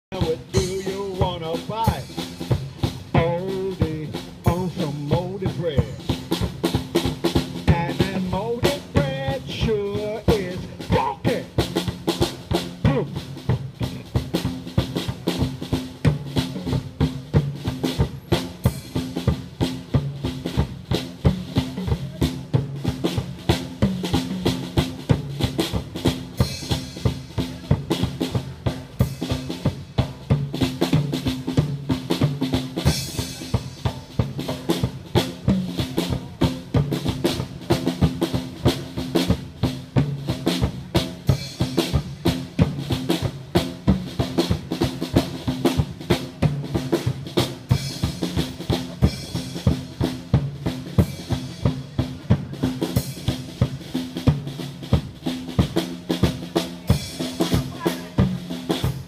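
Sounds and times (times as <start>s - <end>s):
drum kit beat: 0.0s - 59.0s.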